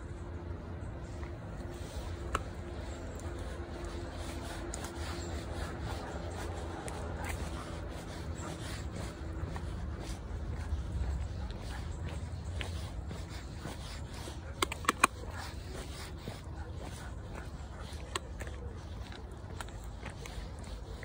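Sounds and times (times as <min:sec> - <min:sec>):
footsteps on paved path: 0:00.1 - 0:21.0.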